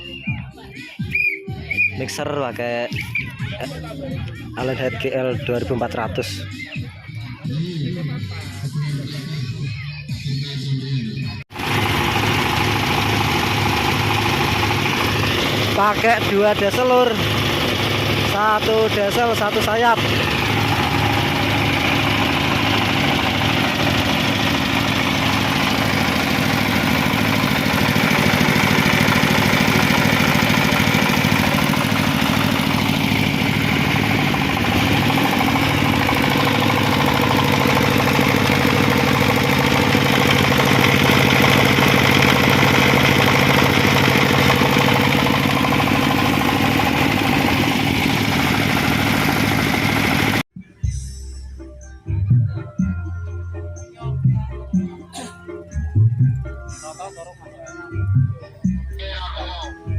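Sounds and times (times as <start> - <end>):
generator engine running: 0.0 - 9.8, 11.4 - 50.5, 52.8 - 59.9.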